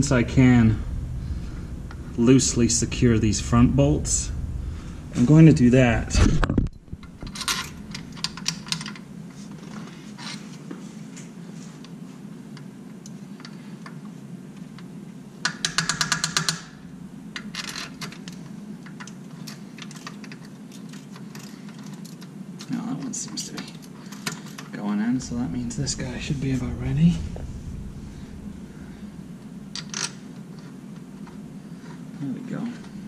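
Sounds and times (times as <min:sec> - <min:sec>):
steady low hum: 0:00.0 - 0:15.4, 0:16.6 - 0:22.6, 0:23.2 - 0:33.0.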